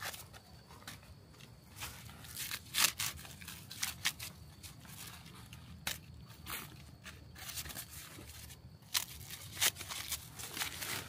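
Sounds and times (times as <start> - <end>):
dry plant matter crunching: 1.1 - 11.0.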